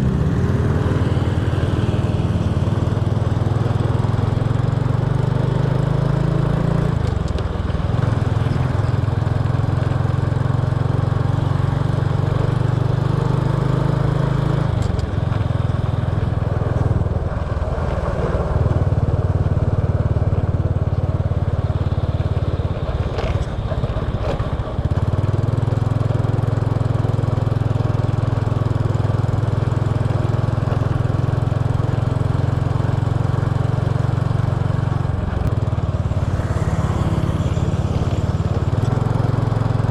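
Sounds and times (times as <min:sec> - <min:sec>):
motorbike engine running: 0:00.0 - 0:39.9
road noise: 0:00.0 - 0:39.9.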